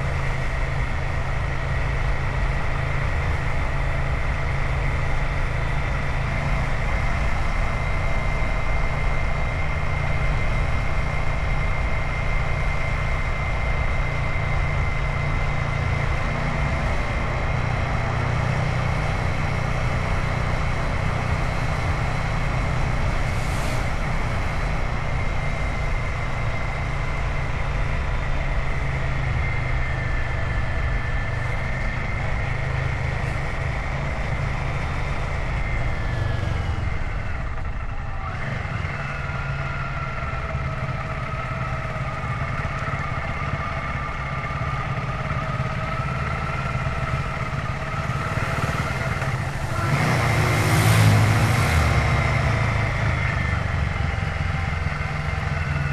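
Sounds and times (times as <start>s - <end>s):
motorcycle engine running: 0.0s - 55.9s
tyre noise on road: 0.0s - 55.9s.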